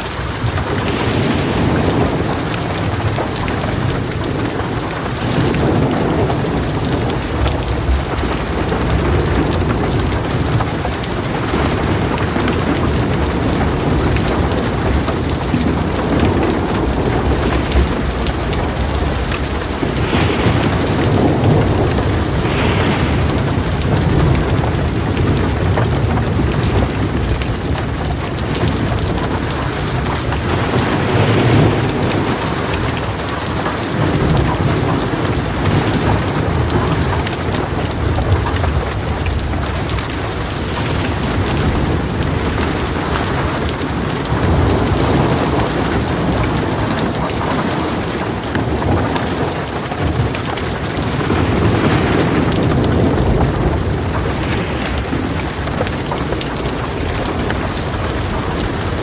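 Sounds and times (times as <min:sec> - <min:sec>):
rain drumming on metal roof: 0:00.0 - 0:59.0
thunder rolling: 0:00.0 - 0:59.0.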